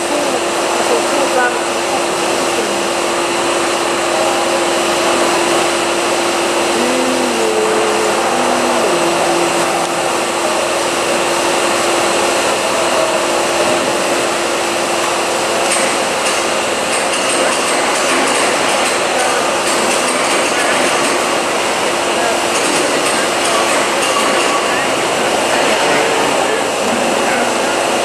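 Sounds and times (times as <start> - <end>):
constant machine hum: 0.0 - 28.0.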